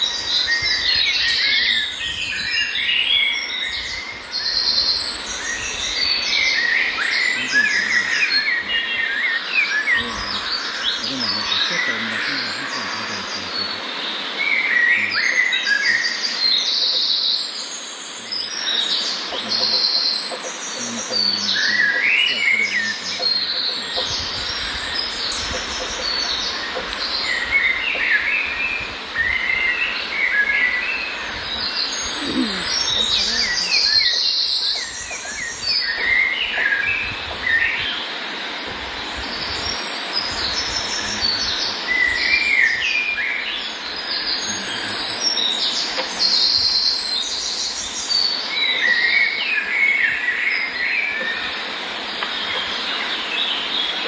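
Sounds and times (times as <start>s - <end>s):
songbirds singing: 0.0s - 54.0s
steady high hiss: 0.0s - 54.0s.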